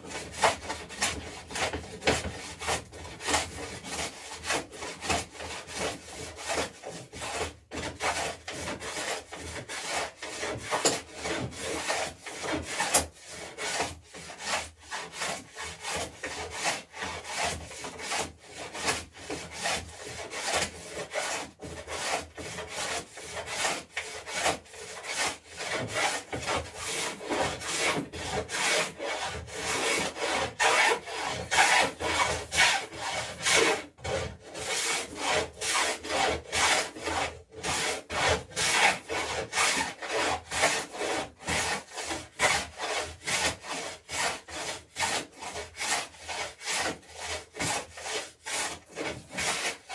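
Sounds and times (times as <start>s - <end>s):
hand tool shaving wood: 0.0s - 49.9s.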